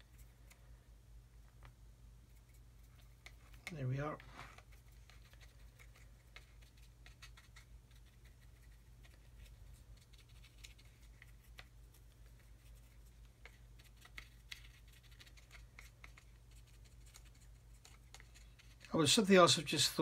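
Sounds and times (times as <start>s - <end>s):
low steady hum: 0.0s - 20.0s
paintbrush scratching: 2.2s - 19.0s.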